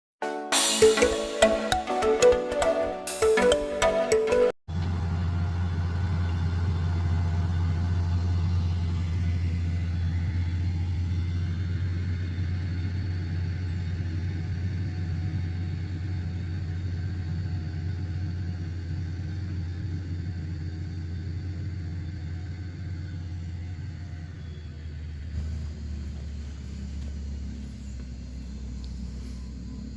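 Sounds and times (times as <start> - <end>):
diesel engine rumbling: 0.8 - 29.9.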